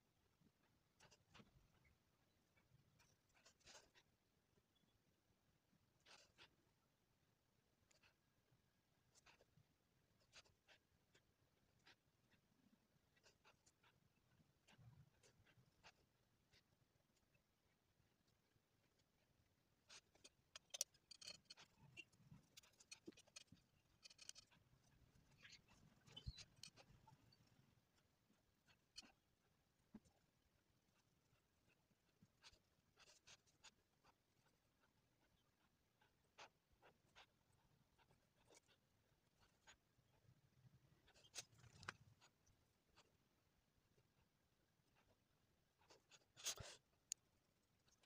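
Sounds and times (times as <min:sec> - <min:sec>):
paintbrush dabbing on paper: 0:05.8 - 0:48.0.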